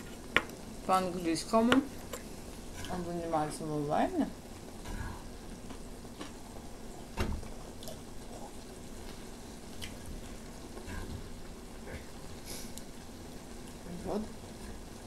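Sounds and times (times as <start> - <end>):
broth simmering in a pan: 0.0 - 15.0.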